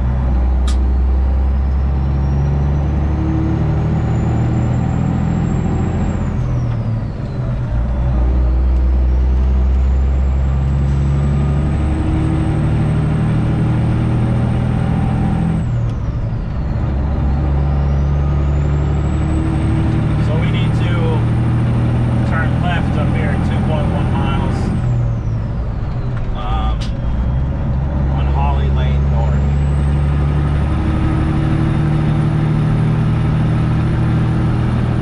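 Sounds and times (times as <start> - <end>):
diesel truck engine pulling: 0.0 - 35.0.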